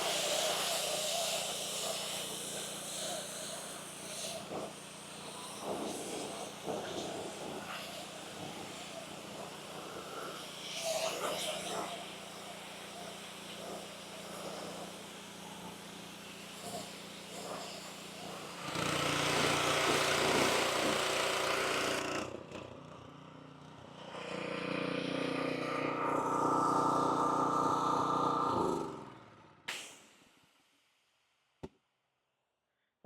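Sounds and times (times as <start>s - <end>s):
pressure washer engine running: 0.0s - 29.4s.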